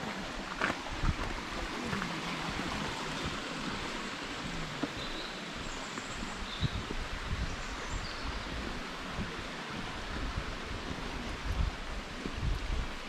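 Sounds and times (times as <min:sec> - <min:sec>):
mountain stream rushing over rocks: 0:00.0 - 0:13.0.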